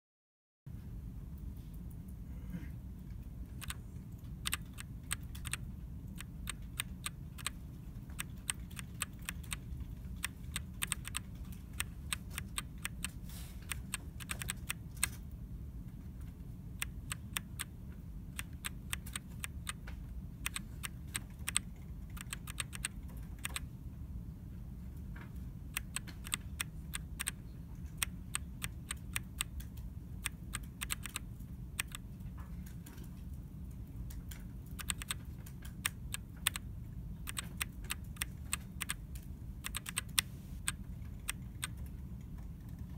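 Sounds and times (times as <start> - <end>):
steady low hum: 0.7 - 42.9
mechanical keyboard clicks: 3.5 - 15.3, 16.8 - 23.7, 25.7 - 32.9, 34.1 - 42.9.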